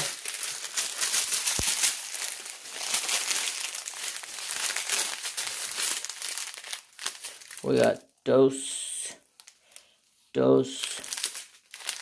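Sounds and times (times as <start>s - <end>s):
plastic bags crinkling: 0.0s - 8.2s, 9.2s - 10.0s, 10.7s - 12.0s.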